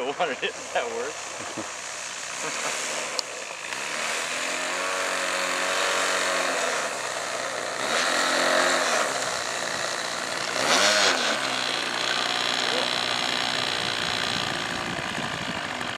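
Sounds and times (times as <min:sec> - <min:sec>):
model plane engine running: 0:00.0 - 0:15.9.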